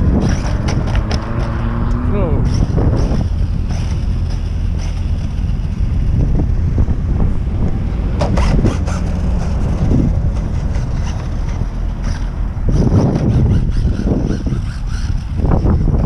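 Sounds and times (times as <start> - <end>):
rc truck motor whine: 0.0 - 1.6, 2.4 - 7.0, 7.6 - 16.0
wind rumbling on microphone: 0.0 - 16.0.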